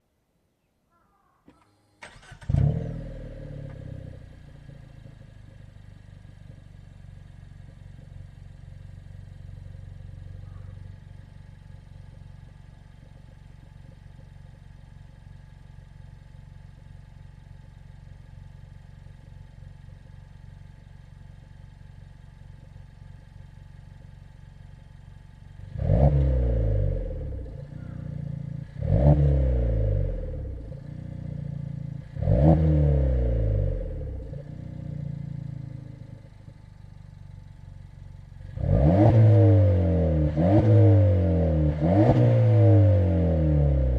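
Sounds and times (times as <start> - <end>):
car engine idling and revving: 1.6 - 43.9.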